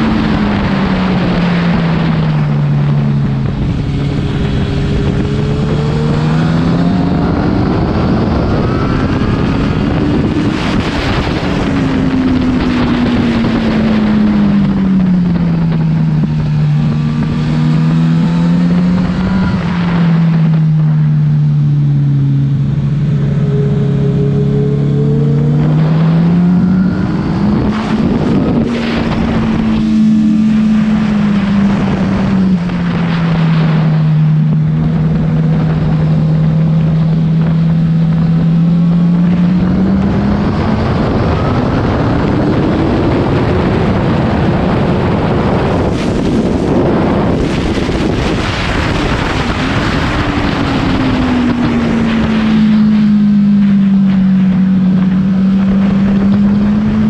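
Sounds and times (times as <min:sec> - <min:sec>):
motorcycle engine: 0:00.0 - 0:57.0
wind on microphone: 0:00.0 - 0:57.0.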